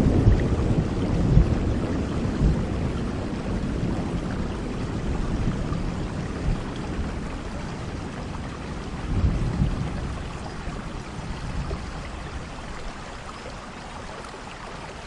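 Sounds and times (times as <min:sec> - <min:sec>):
thunder rumbling: 0:00.0 - 0:12.9
heavy rain falling: 0:00.0 - 0:15.0.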